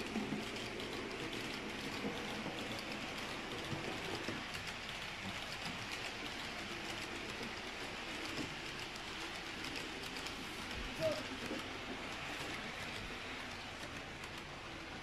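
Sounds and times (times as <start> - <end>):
light track clicks: 0.0 - 15.0
model train wheels rumbling on rail: 0.0 - 15.0.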